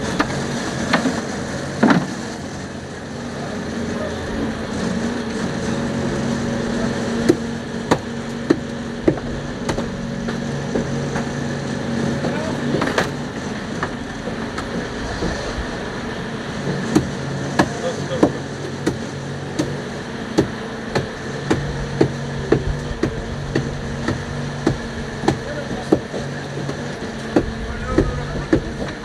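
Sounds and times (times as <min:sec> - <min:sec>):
boat engine running: 0:00.0 - 0:29.0
sharp regular knocking: 0:04.4 - 0:29.0.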